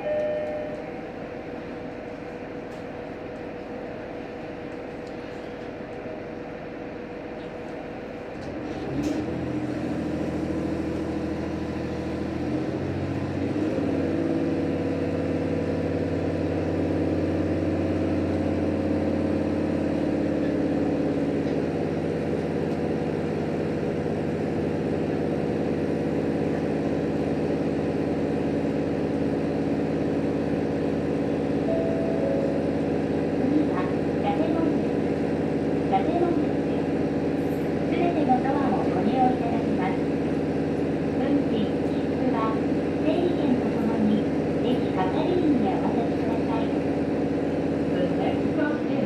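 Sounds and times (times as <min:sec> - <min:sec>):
railcar diesel engine throttling up: 0:00.0 - 0:49.0.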